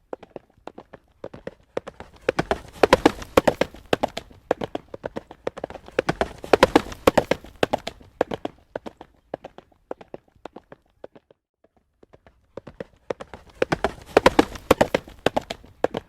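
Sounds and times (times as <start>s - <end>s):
horse hooves trotting on road: 0.0s - 16.0s.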